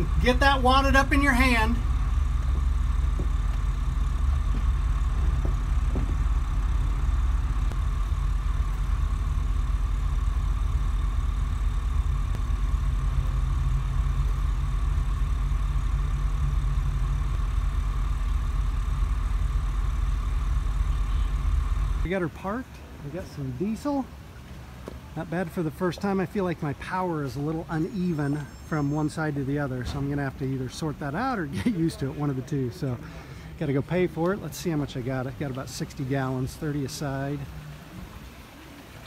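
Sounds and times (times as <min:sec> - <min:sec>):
diesel engines idling: 0:00.0 - 0:39.0.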